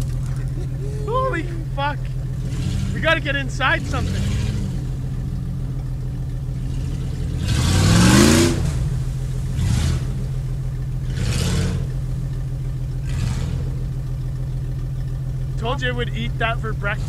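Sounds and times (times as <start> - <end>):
tyres spinning and throwing mud: 0.0 - 14.6
engine revving under load: 0.0 - 17.0.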